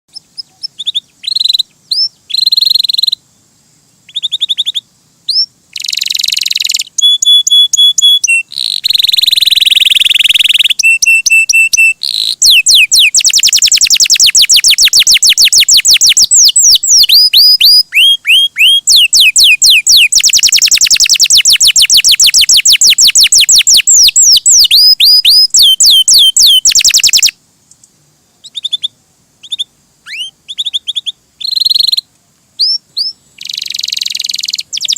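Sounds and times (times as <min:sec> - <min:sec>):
canary singing: 0:00.1 - 0:03.2, 0:04.0 - 0:27.4, 0:28.4 - 0:34.9.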